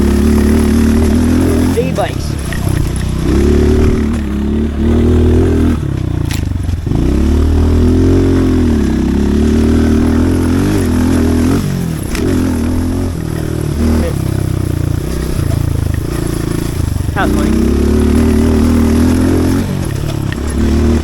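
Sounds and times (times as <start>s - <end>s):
small motorcycle engine revving: 0.0s - 21.0s.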